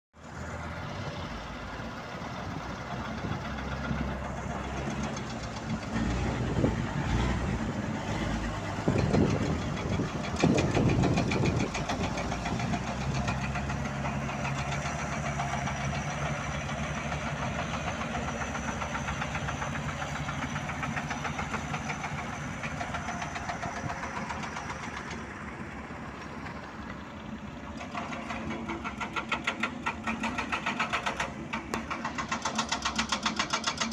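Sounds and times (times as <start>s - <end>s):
truck engine running: 0.2s - 33.9s.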